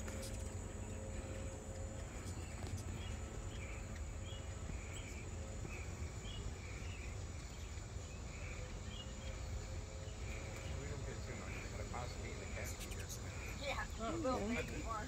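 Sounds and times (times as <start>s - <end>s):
insect chirps: 0.0s - 15.0s
insect drone: 0.0s - 15.0s.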